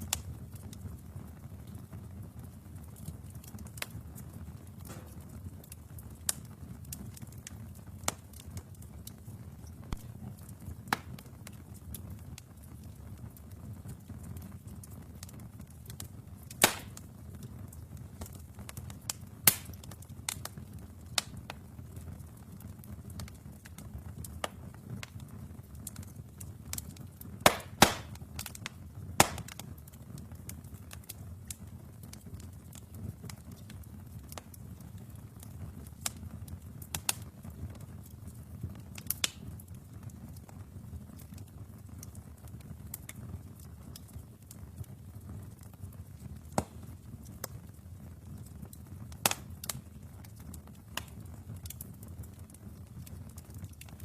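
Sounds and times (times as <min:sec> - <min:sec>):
fire crackles and pops: 0:00.0 - 0:54.0
fire rumbling: 0:00.0 - 0:54.0.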